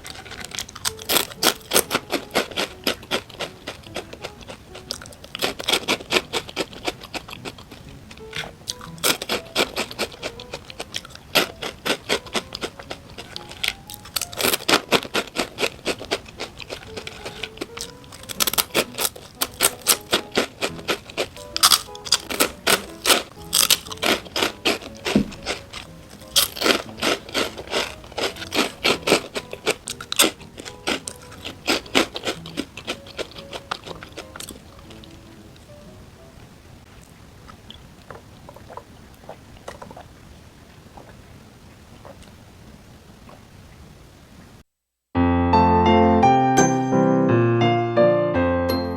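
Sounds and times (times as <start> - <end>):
crunching and chewing food: 0.0 - 35.8, 36.9 - 43.4
soft background music: 0.0 - 36.9, 45.2 - 48.9.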